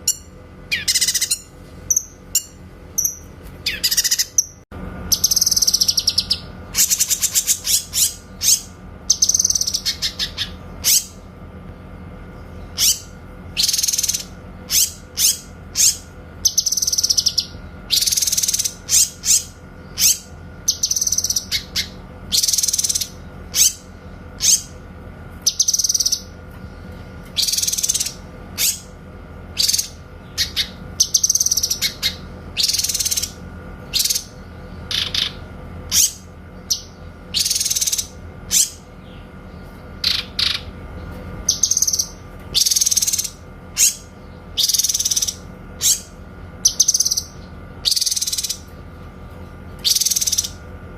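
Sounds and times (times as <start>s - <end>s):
bird rattling trill: 0.0s - 11.2s, 12.7s - 24.8s, 25.4s - 26.4s, 27.3s - 28.9s, 29.6s - 38.9s, 41.4s - 48.8s, 49.8s - 50.6s
bird singing high-pitched bursts: 0.0s - 11.2s, 12.7s - 24.8s, 25.4s - 26.4s, 27.4s - 28.9s, 29.6s - 39.1s, 41.4s - 48.7s, 49.8s - 50.6s
faint steady hum: 0.0s - 50.9s.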